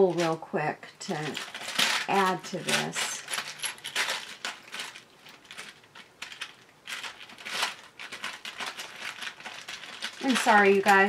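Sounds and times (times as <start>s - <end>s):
craft pieces clicking and clattering: 1.1s - 11.0s.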